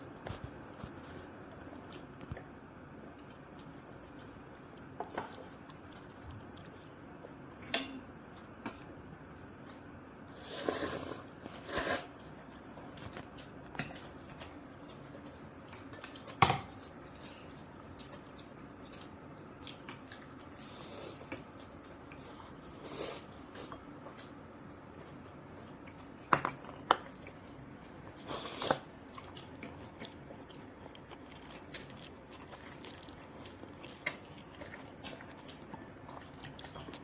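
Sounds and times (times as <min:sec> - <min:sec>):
people chewing: 0:00.0 - 0:07.6, 0:08.2 - 0:37.0.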